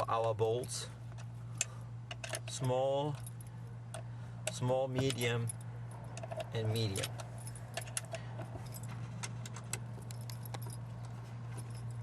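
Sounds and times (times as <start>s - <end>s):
allen wrenches clinking on metal: 0.0s - 12.0s
steady low hum: 0.0s - 12.0s.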